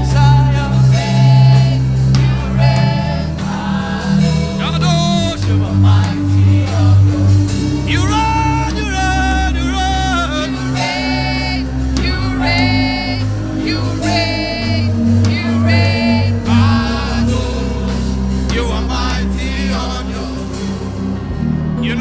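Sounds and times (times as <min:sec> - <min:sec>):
person singing with vibrato: 0:00.0 - 0:22.0
sustained low bass notes: 0:00.0 - 0:22.0.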